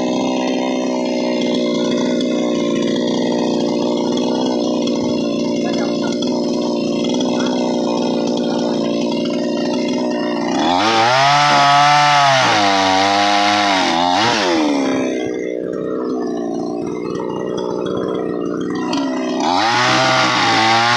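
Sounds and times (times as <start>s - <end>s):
chainsaw cutting wood: 0.0s - 20.9s.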